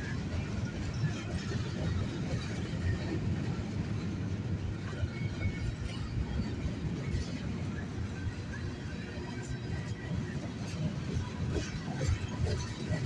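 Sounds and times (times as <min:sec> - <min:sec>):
steel wheels on rails: 0:00.0 - 0:13.0.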